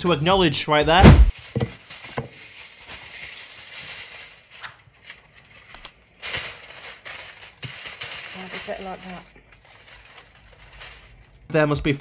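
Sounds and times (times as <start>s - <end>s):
aluminium foil crinkling: 1.3s - 11.5s.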